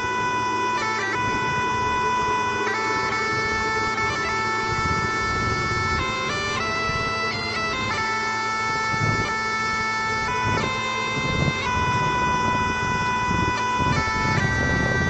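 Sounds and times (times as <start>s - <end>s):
reedy wind instrument melody: 0.0s - 15.0s.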